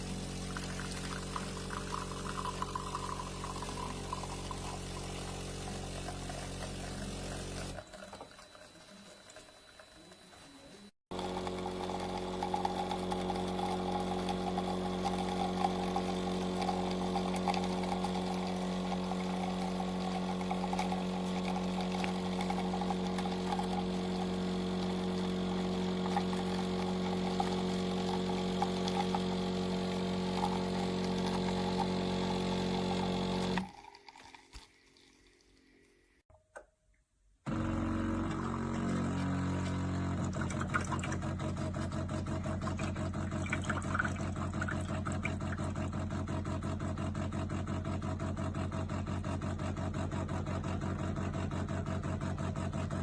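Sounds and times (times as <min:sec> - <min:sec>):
espresso machine humming: 0:00.0 - 0:33.8, 0:37.5 - 0:53.0.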